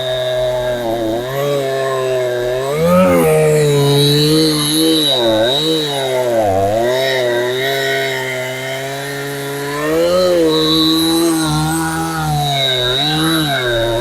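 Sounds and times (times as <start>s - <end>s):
chainsaw cutting log: 0.0s - 14.0s.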